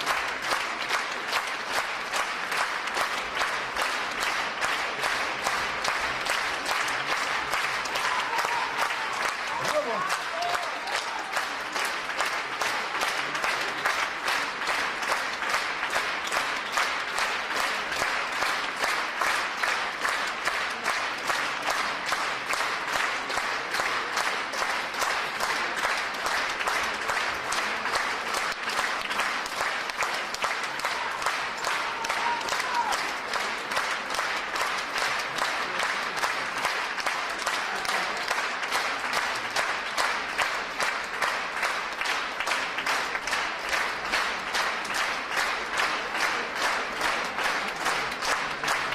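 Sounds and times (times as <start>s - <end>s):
audience applauding: 0.0s - 48.9s.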